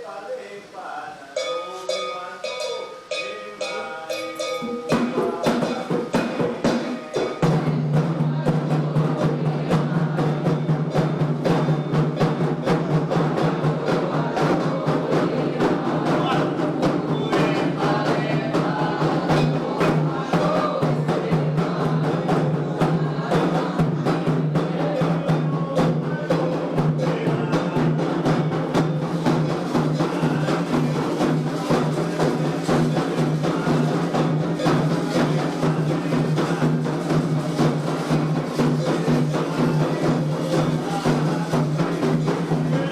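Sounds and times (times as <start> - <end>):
hand drums playing: 1.3 - 42.9
struck percussion: 1.4 - 42.9.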